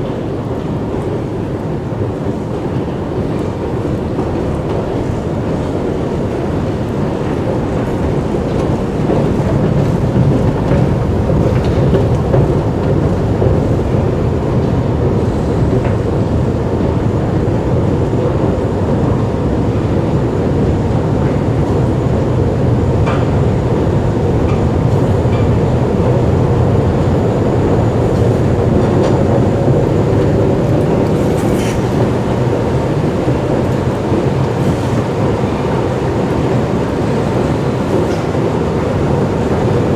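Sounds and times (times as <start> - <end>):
low rumbling machinery drone: 0.0 - 39.9.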